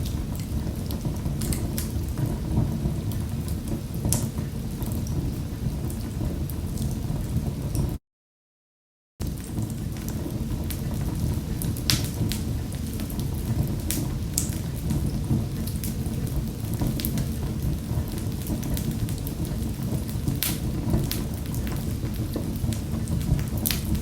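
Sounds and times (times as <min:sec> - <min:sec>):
fire crackling and popping: 0:00.0 - 0:08.0, 0:09.2 - 0:24.0
fire rumbling: 0:00.0 - 0:08.0, 0:09.2 - 0:24.0.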